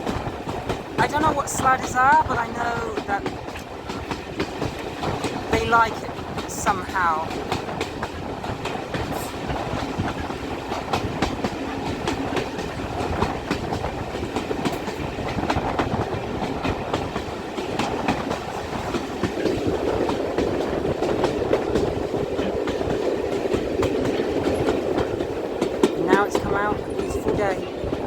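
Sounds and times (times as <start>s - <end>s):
rolling rumble of train: 0.0s - 28.0s
train wheels clicking on rail joints: 0.0s - 28.0s.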